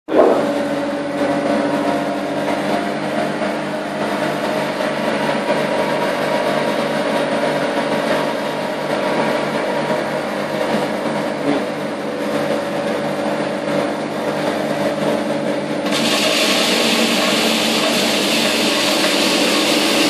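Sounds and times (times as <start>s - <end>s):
grinding machine humming: 0.1s - 20.0s.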